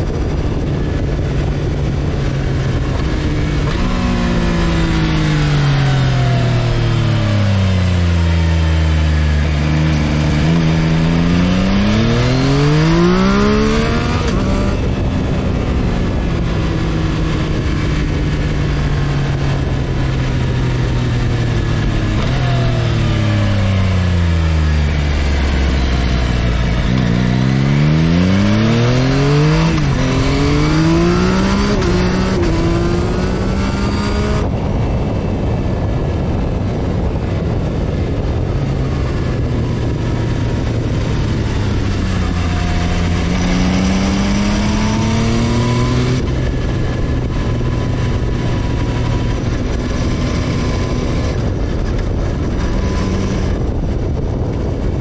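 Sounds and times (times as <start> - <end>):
motorcycle engine accelerating: 0.0 - 55.0
wind and road noise: 0.0 - 55.0.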